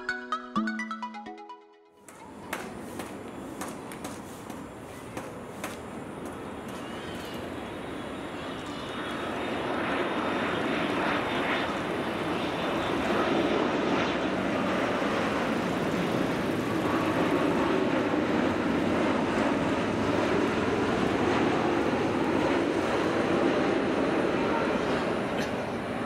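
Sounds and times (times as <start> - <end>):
jet engines passing overhead: 2.0 - 26.0.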